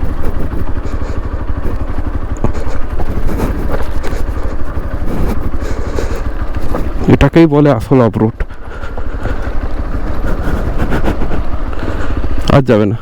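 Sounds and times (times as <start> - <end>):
motorcycle engine under load: 0.0 - 13.0.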